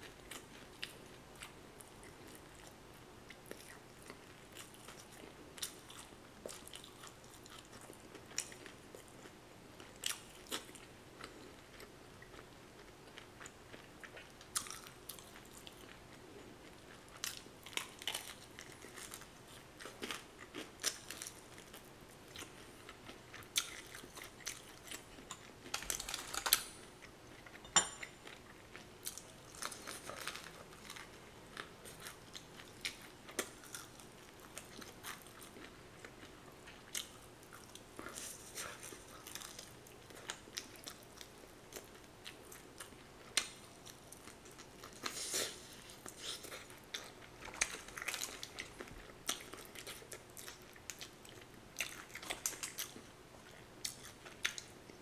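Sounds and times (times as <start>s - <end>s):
crunching fried chicken: 3.4s - 27.6s, 28.3s - 54.8s.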